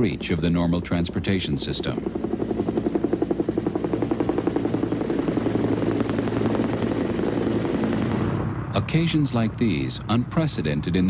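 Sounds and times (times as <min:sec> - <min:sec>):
helicopter rotor chopping: 0:00.0 - 0:11.0
piston engine drone: 0:00.0 - 0:11.0.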